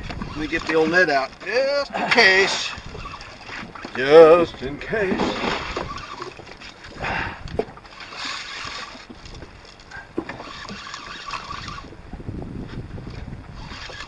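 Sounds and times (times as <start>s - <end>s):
gear knocking against boat: 0.0s - 14.0s
water sloshing around boat: 0.0s - 14.0s.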